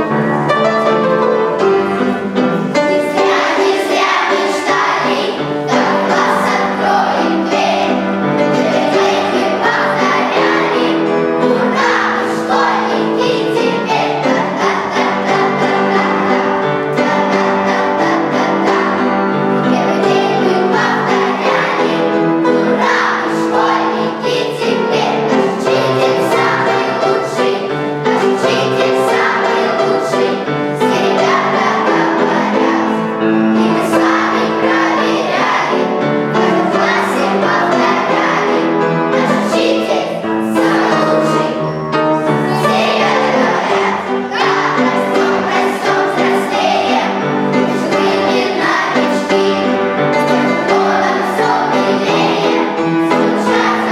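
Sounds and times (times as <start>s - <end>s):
children singing with instruments: 0.0s - 53.9s.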